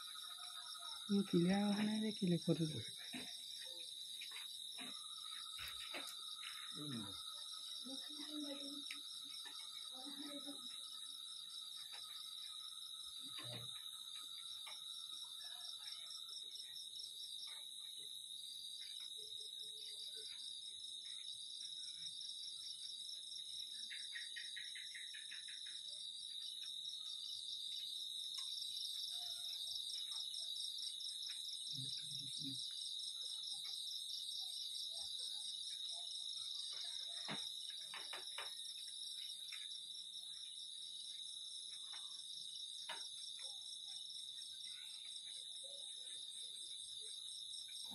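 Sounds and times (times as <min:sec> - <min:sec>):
crickets and insects trilling: 0:00.0 - 0:47.9.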